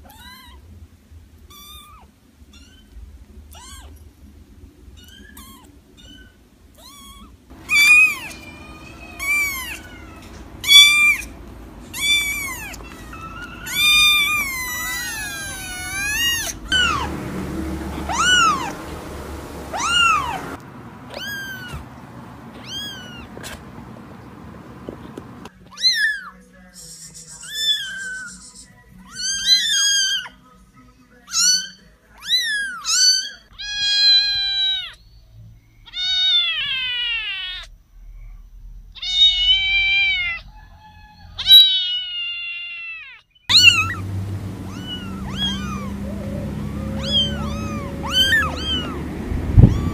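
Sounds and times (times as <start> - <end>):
kittens meowing: 1.5 - 4.0, 4.9 - 26.4, 27.4 - 30.4, 31.3 - 35.0, 35.9 - 37.7, 39.0 - 49.9.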